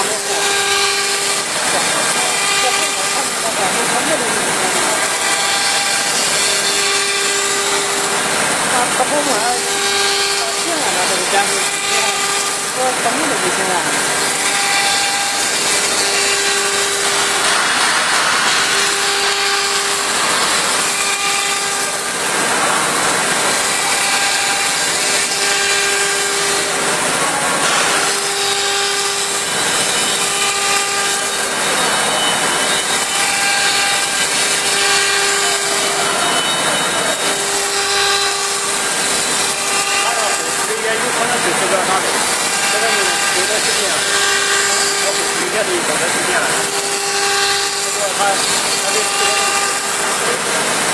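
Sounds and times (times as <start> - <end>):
router cutting wood: 0.0 - 50.9
router spindle whine: 0.0 - 50.9.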